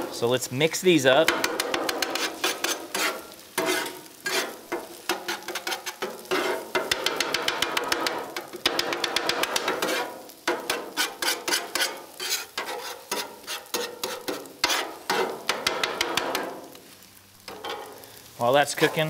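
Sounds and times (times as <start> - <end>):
eggs sizzling: 0.0 - 19.0
metal spatula scraping on griddle: 1.2 - 19.0.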